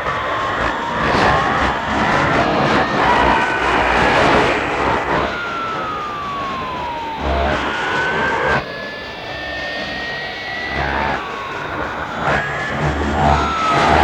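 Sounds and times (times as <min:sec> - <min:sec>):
whistling tones gliding in pitch: 0:00.5 - 0:14.0.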